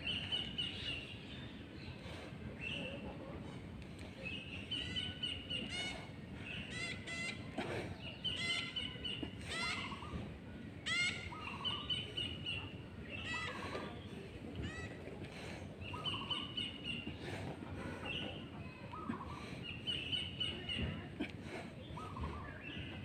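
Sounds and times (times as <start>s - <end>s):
birds chirping and trilling: 0.0s - 3.2s, 4.1s - 21.1s, 21.8s - 23.0s
outdoor background noise: 0.0s - 23.0s.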